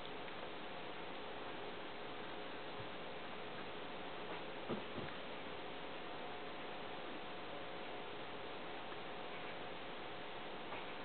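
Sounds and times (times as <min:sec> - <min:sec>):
faint hum: 0:00.0 - 0:11.0
steady hiss: 0:00.0 - 0:11.0.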